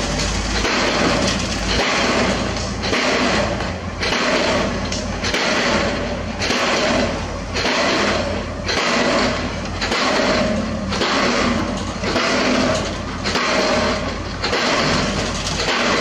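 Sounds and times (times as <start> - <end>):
diesel pile hammer blows: 0.0 - 16.0.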